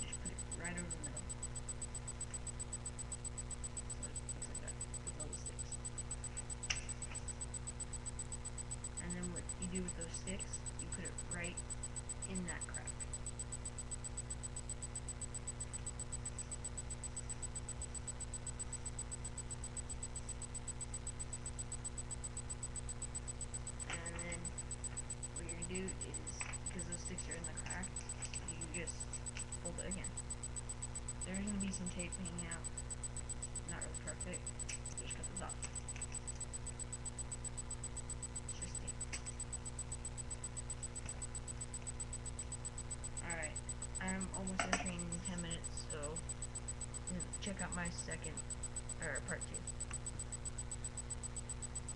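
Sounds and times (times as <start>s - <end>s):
low electrical hum and hiss: 0.0s - 51.9s
thin high whine: 0.0s - 51.9s
fast faint ticking: 1.2s - 51.9s.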